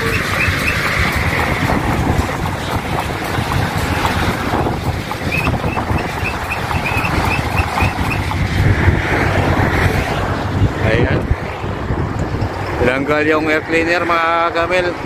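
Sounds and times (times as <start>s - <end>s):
mechanical rumble: 0.0s - 12.8s
wind buffeting microphone: 0.0s - 15.0s.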